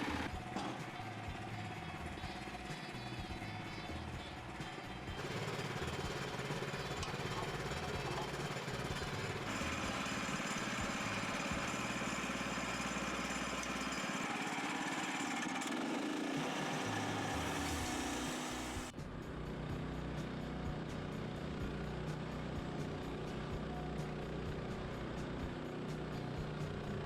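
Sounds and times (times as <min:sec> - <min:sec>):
sawmill gas engine running: 0:00.0 - 0:27.0.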